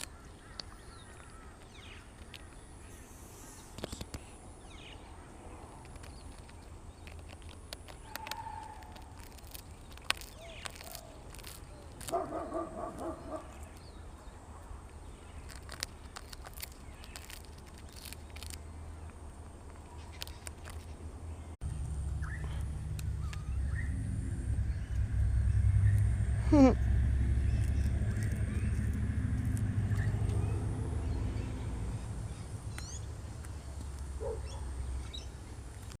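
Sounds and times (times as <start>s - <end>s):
sharp clicks and snaps: 0.0s - 2.7s, 3.7s - 4.9s, 5.7s - 21.0s, 22.6s - 26.2s, 27.4s - 31.5s, 32.3s - 34.2s
low wind rumble: 4.3s - 36.0s.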